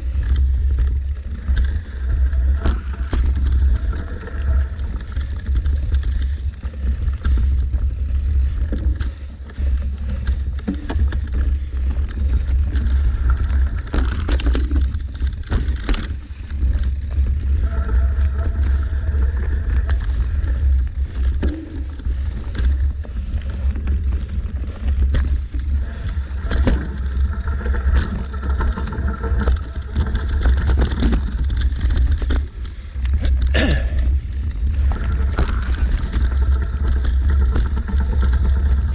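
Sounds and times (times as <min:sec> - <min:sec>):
bike rattling over roots: 0:00.0 - 0:38.9
low rumble of bike ride: 0:00.0 - 0:38.9.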